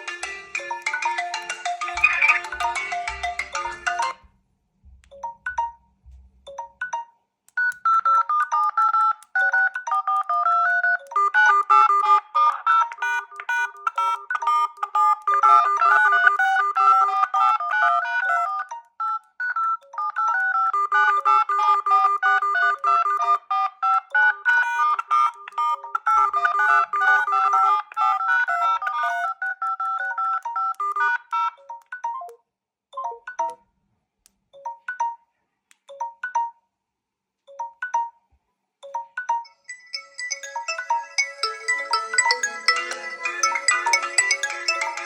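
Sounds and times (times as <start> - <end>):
phone ringtone melodies: 0.0 - 4.3, 5.1 - 5.9, 6.5 - 32.4, 33.0 - 33.6, 34.6 - 35.3, 35.9 - 36.6, 37.5 - 45.0.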